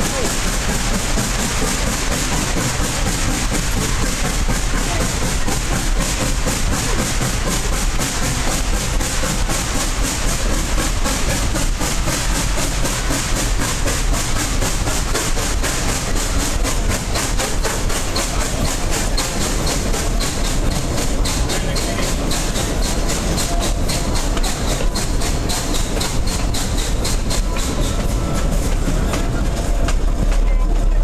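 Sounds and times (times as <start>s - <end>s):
steam train hiss: 0.0s - 31.0s
train wheels rumbling on rails: 0.0s - 31.0s.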